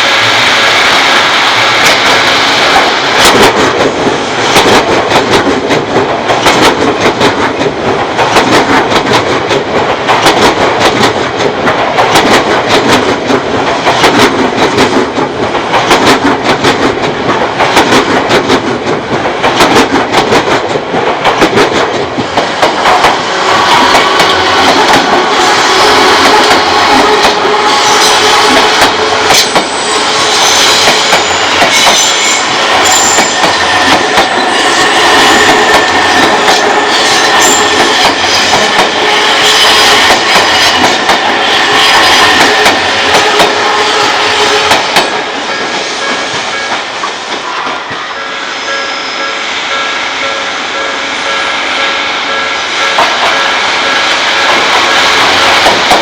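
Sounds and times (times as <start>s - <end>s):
train wheels running: 0.0s - 56.0s
wheels clacking over rail joints: 1.6s - 30.0s, 30.7s - 47.9s, 52.3s - 56.0s.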